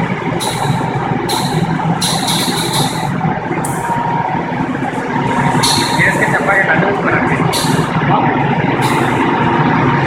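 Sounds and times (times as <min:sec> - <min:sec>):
furnace mechanical noise: 0:00.0 - 0:10.0.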